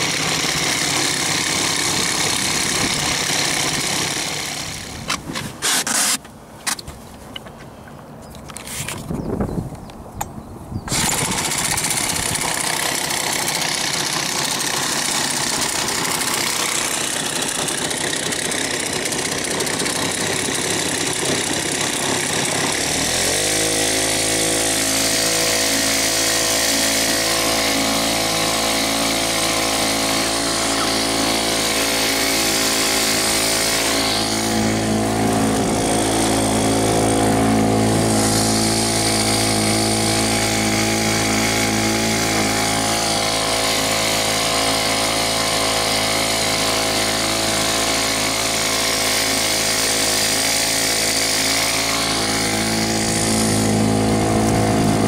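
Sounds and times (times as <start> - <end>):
small boat engine running: 0.0 - 5.0, 10.9 - 55.0.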